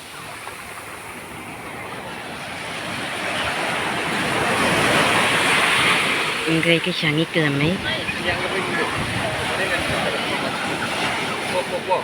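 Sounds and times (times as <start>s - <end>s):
waves rushing: 0.0s - 12.0s.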